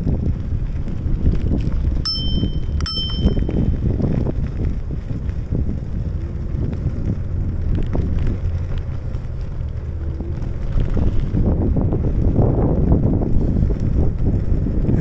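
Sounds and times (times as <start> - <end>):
bicycle tyres rolling on pavement: 0.0 - 15.0
wind buffeting microphone: 0.0 - 15.0.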